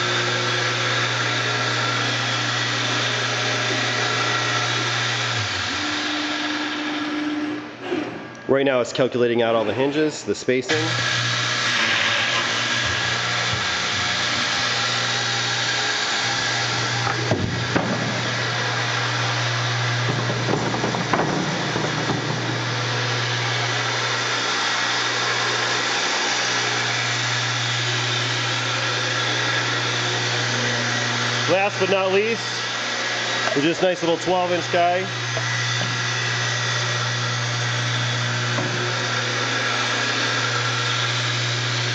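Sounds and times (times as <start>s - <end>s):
drilling machine humming: 0.0s - 8.5s, 10.6s - 41.9s.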